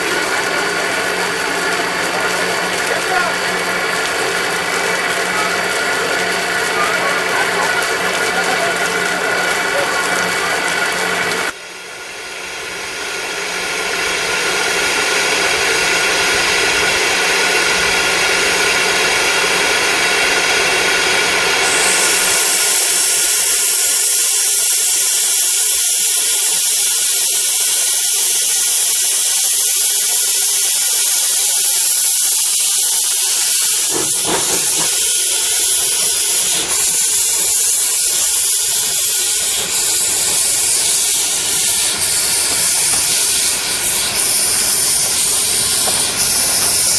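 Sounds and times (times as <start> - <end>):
loud steam hiss: 0.0 - 46.9
steam locomotive mechanical whine: 0.0 - 46.9.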